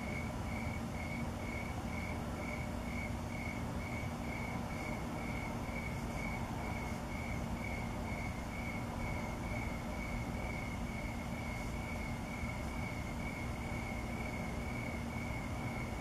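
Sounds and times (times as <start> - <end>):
cricket chirping: 0.0 - 16.0
low steady rumble and hum: 0.0 - 16.0.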